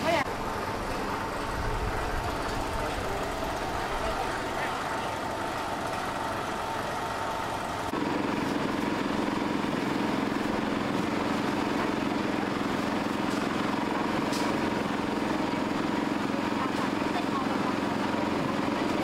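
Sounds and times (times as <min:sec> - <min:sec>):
market background noise: 0:00.0 - 0:19.0
steady motor hum: 0:00.0 - 0:19.0.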